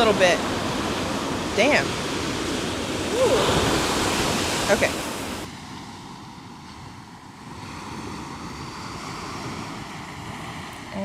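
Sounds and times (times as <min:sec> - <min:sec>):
surf washing over rocky shore: 0:00.0 - 0:11.0.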